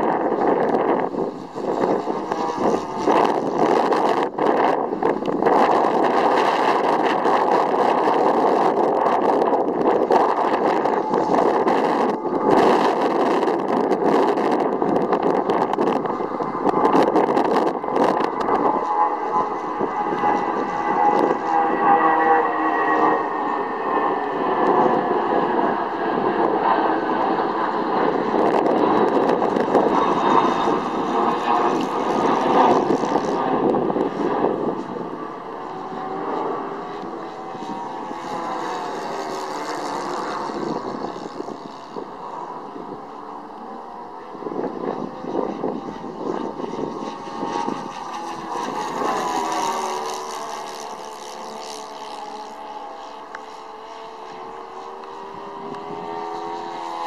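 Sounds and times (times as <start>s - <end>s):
model plane engine in flight: 0.0s - 57.0s.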